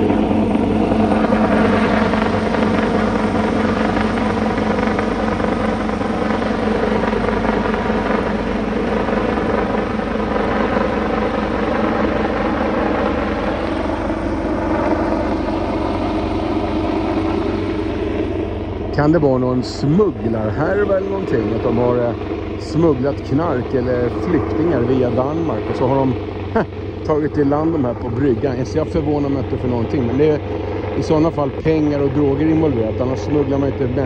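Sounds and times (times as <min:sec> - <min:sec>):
helicopter drone: 0:00.0 - 0:34.0.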